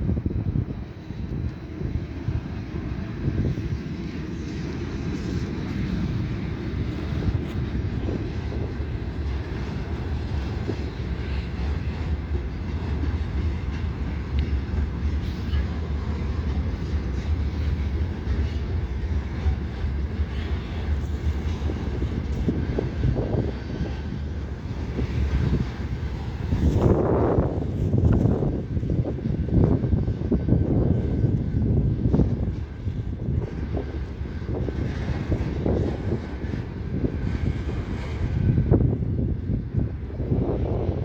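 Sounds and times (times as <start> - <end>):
train rumbling by: 0.0 - 41.0.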